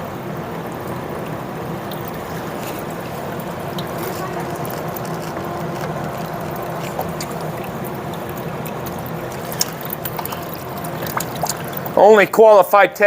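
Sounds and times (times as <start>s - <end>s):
water spraying and running off: 0.0s - 12.8s
low mechanical hum: 0.0s - 13.0s
drip-like ticks: 0.6s - 12.4s.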